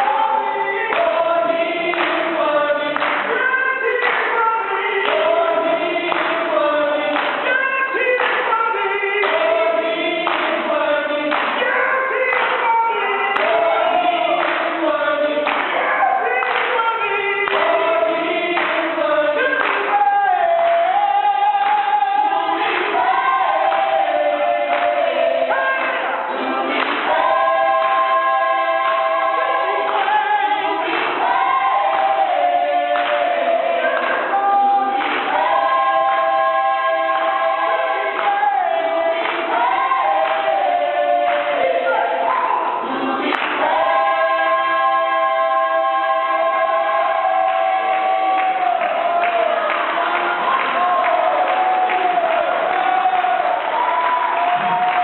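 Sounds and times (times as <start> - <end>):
group singing worship song: 0.0 - 55.0.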